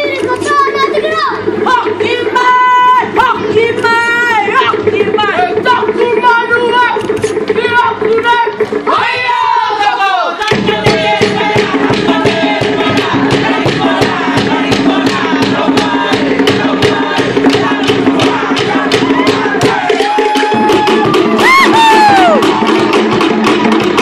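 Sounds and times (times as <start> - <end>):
slit log drums and hand drums: 0.0 - 24.0.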